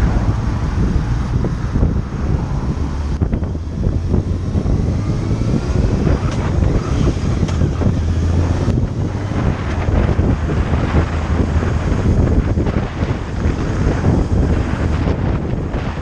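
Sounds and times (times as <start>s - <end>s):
motorcycle engine running: 0.0s - 16.0s
wind rushing across microphone: 0.0s - 16.0s.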